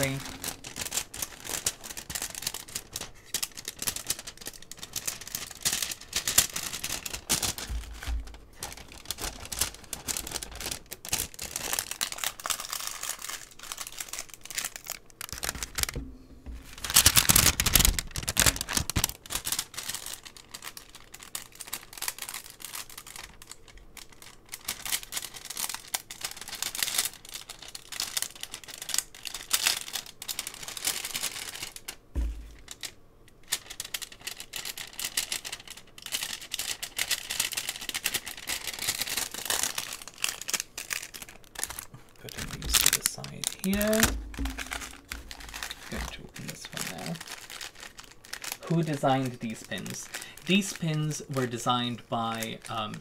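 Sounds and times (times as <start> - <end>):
paper and plastic packaging crinkling: 0.0 - 53.0.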